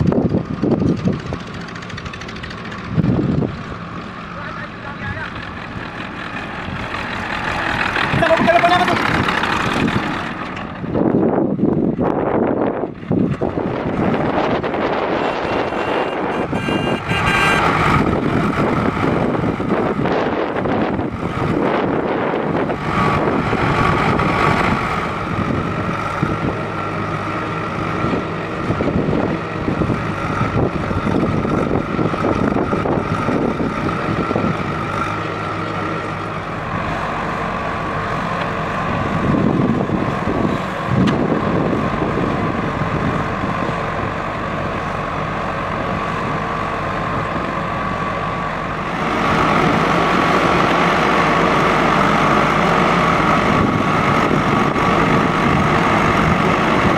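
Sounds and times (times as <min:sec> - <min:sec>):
diesel engines running: 0:00.0 - 0:56.9.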